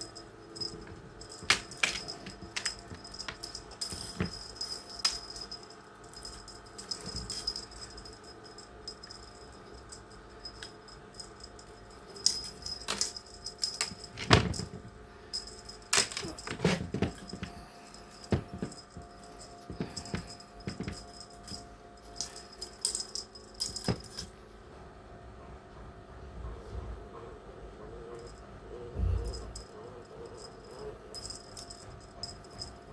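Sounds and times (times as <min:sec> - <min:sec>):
jingling and rattling: 0:00.0 - 0:24.4, 0:29.0 - 0:32.9.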